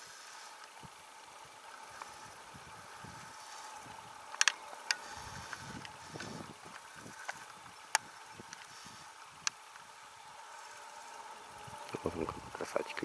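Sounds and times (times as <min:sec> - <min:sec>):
forest rustling in wind: 0:00.0 - 0:13.0.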